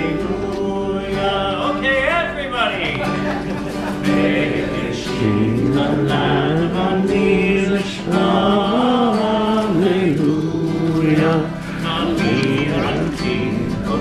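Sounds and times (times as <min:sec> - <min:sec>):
acoustic guitar: 0:00.0 - 0:14.0
group of adults singing: 0:00.0 - 0:14.0.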